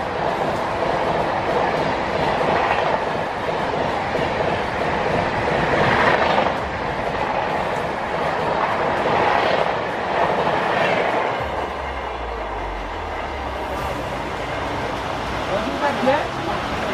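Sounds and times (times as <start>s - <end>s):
train wheels rushing on track: 0.0s - 16.9s.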